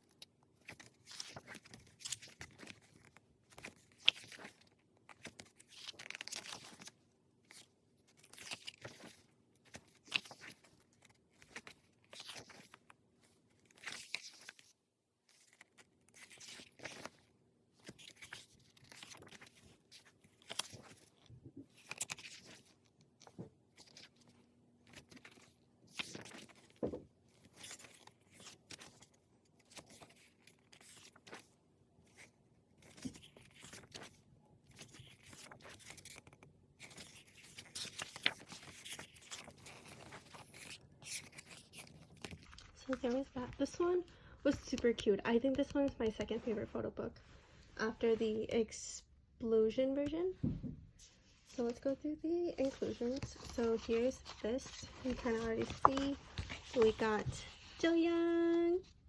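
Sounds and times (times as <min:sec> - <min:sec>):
pages turning: 0:00.1 - 0:43.9, 0:51.0 - 0:58.9.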